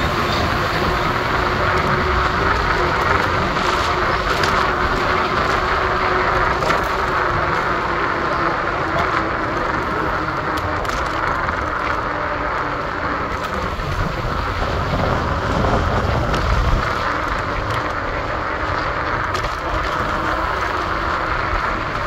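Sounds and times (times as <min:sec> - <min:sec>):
traffic: 0:00.0 - 0:22.0.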